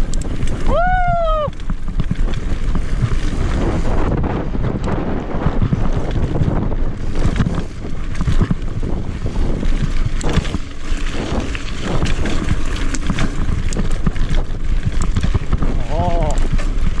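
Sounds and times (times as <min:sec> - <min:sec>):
bike tyres and frame clattering: 0:00.0 - 0:17.0
wind buffeting microphone: 0:00.0 - 0:17.0.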